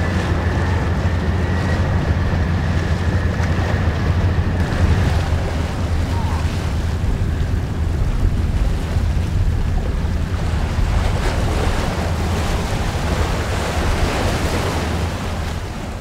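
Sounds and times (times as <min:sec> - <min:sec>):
churning water: 0:00.0 - 0:16.0
wind buffeting microphone: 0:00.0 - 0:16.0.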